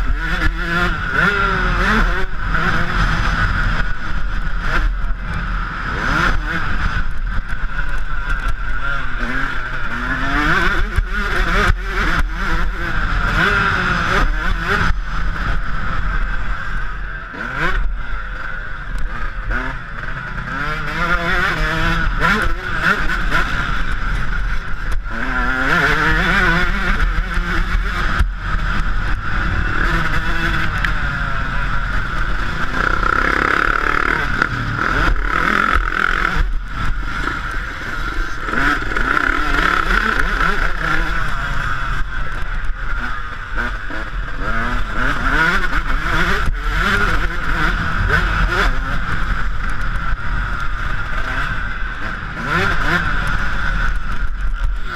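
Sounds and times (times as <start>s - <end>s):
motocross engine revving: 0.0s - 54.9s
steady rushing noise: 0.0s - 54.9s.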